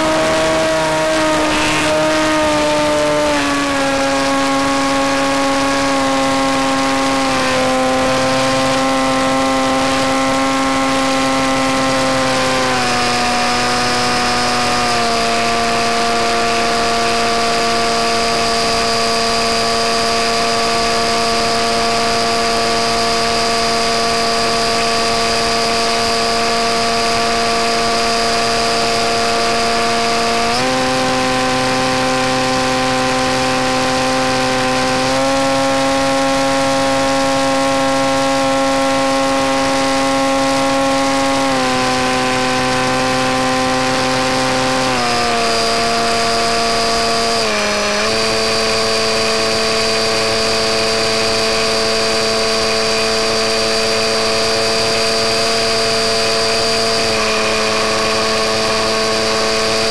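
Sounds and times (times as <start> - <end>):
electric motor and propeller whine: 0.0 - 59.9.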